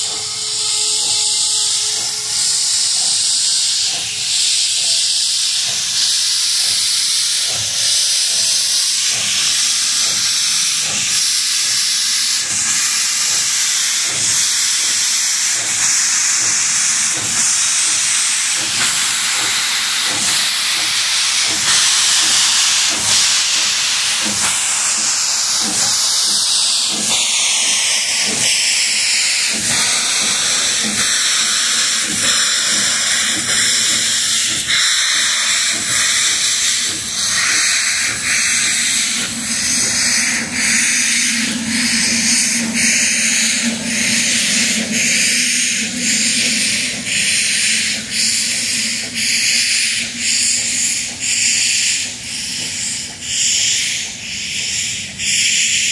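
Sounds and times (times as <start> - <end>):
steam hissing: 0.0 - 55.9
steam locomotive exhaust beat: 0.0 - 55.9.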